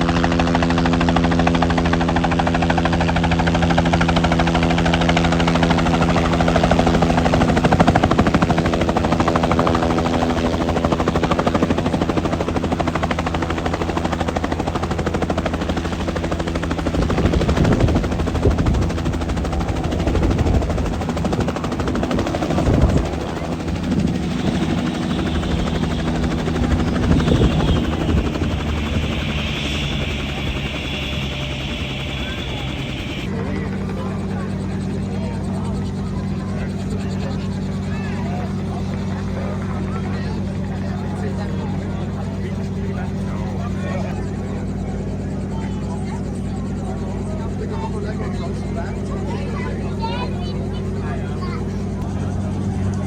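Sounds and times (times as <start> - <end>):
helicopter engine hum: 0.0 - 53.0
helicopter rotor beating: 0.0 - 53.0.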